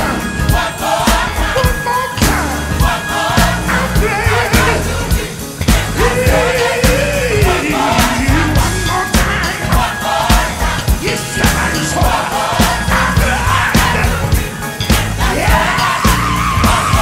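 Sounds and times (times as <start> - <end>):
drums and bass: 0.0 - 17.0
gospel choir singing: 0.0 - 17.0.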